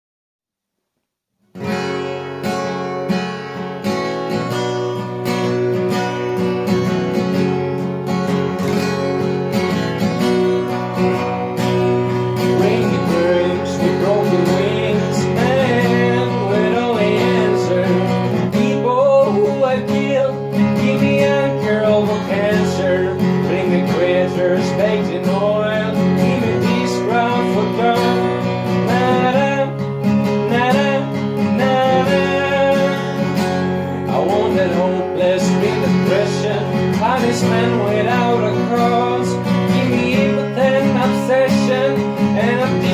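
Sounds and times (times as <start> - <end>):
strummed acoustic guitar chords: 1.5 - 42.9.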